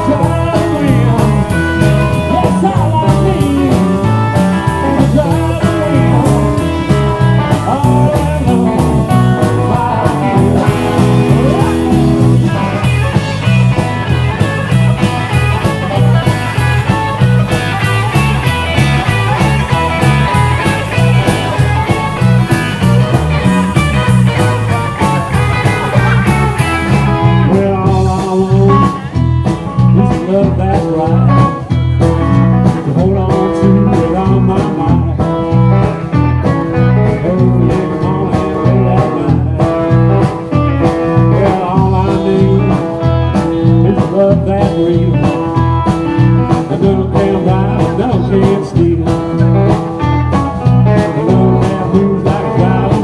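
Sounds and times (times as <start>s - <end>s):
band music with guitar: 0.0s - 53.0s.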